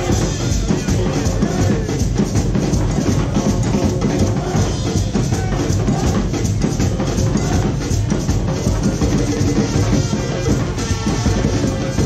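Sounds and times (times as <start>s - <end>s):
street band playing parade music: 0.0s - 12.0s.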